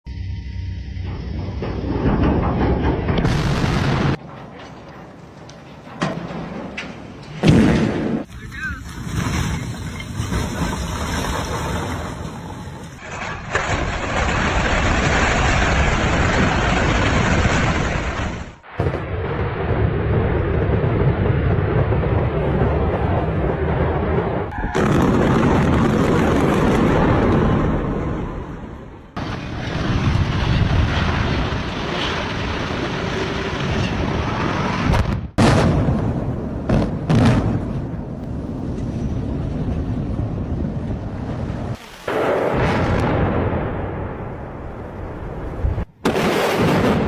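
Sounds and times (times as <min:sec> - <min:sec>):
building collapse rumble: 0:00.9 - 0:47.0.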